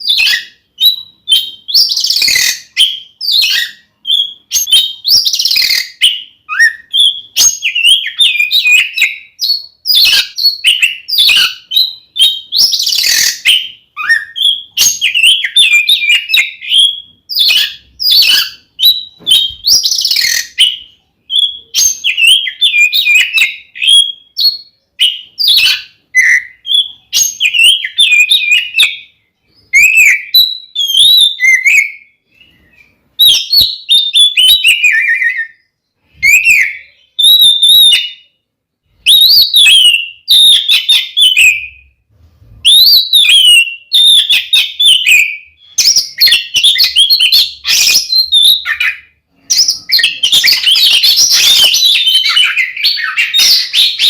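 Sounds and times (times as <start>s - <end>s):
magpie-robin singing: 0.0s - 42.0s, 42.6s - 54.0s.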